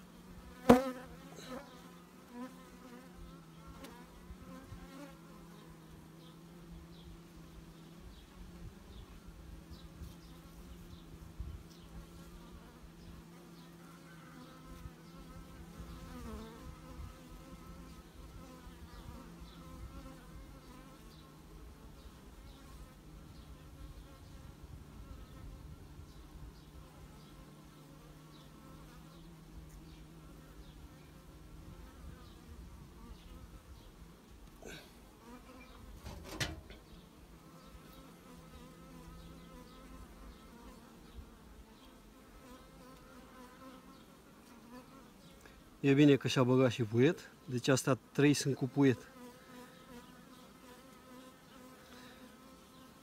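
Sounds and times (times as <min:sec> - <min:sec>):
bees buzzing: 0:00.0 - 0:46.5, 0:47.2 - 0:53.0.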